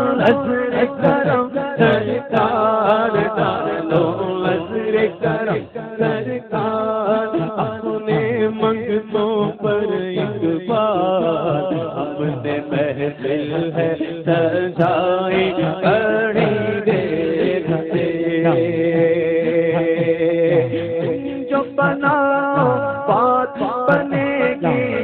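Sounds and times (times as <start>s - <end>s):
man singing into a microphone: 0.0s - 25.0s.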